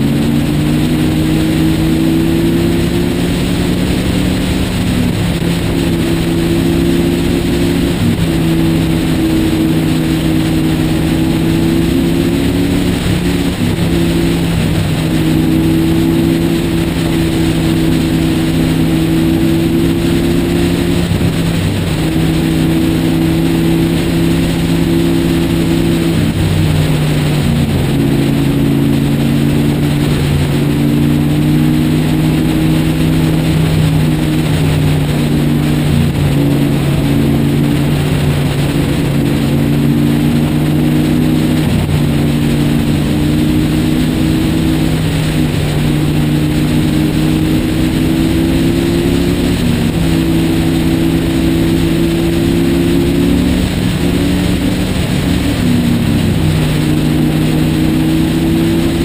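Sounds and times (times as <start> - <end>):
motorcycle engine cruising: 0.0 - 59.0
wind rush over microphone: 0.0 - 59.0.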